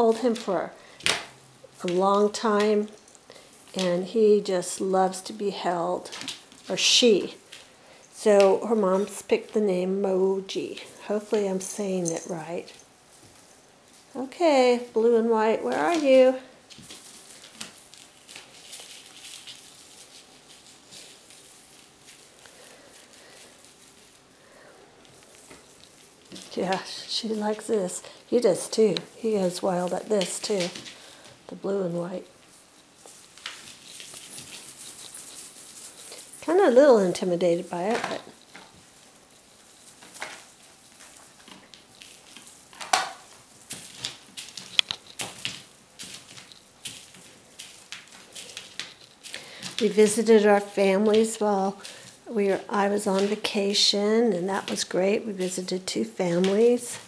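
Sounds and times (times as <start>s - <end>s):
kittens' paws scampering on mat: 0.0s - 9.6s, 15.6s - 31.5s, 32.2s - 57.0s.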